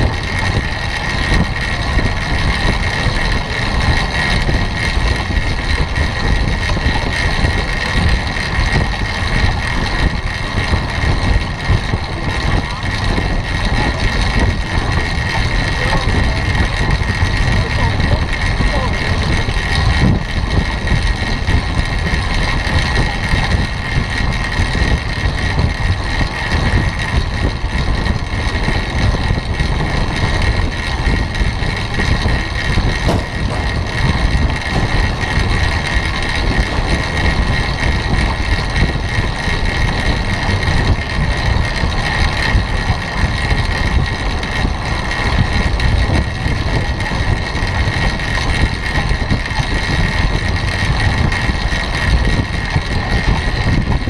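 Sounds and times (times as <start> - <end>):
constant high whine: 0.0 - 54.0
wind buffeting microphone: 0.0 - 54.0.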